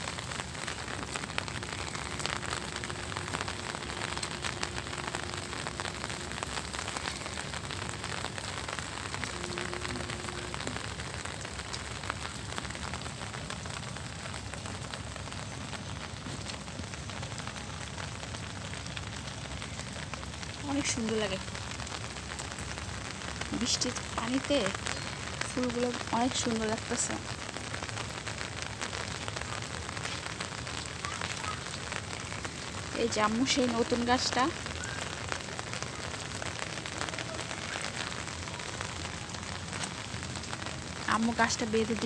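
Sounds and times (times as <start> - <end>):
rain on tiles and leaves: 0.0 - 42.0.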